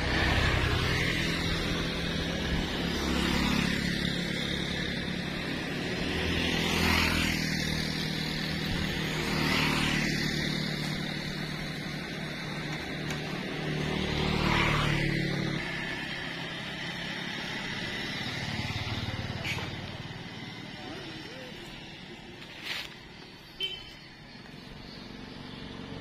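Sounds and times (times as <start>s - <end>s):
motorcycles passing by: 0.0s - 26.0s
steady traffic rumble: 0.0s - 26.0s.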